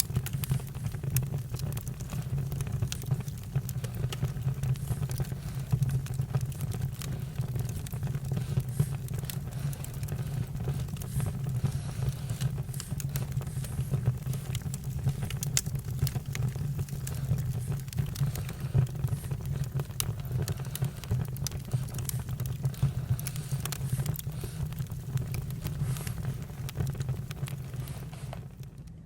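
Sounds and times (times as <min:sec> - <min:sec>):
campfire rumble: 0:00.0 - 0:29.0
wood crackling and popping: 0:00.0 - 0:29.0.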